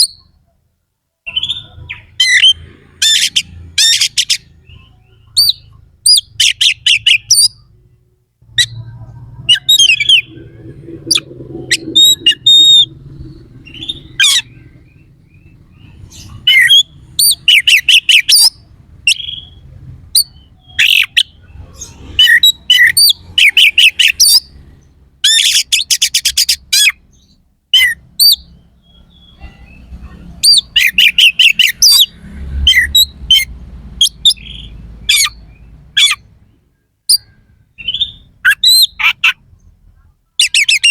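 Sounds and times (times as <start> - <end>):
bird singing harsh notes and whistles: 0.0 - 0.5, 1.2 - 36.3, 37.1 - 39.6, 40.4 - 40.9.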